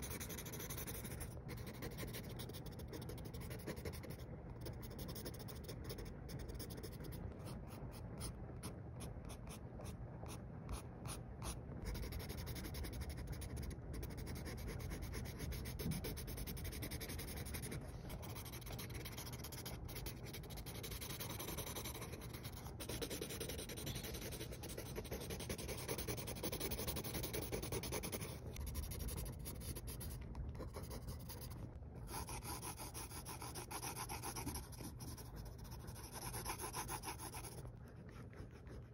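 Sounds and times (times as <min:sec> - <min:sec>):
pencil scratching on paper: 0:00.0 - 0:38.9.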